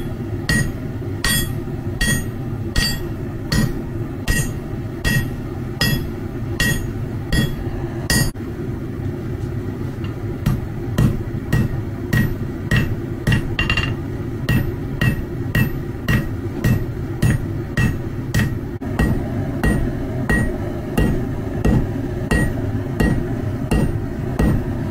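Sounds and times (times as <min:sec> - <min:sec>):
hammer striking steel on anvil: 0:00.0 - 0:08.4, 0:10.0 - 0:24.7.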